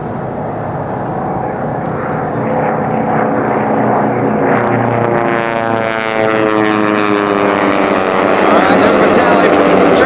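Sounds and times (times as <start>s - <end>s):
propeller planes at full power: 0.0s - 10.0s.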